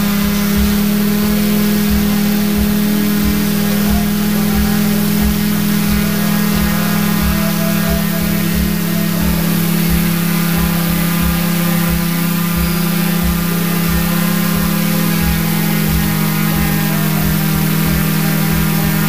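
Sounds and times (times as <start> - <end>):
drone motors humming: 0.0 - 19.0
propeller hiss: 0.0 - 19.0.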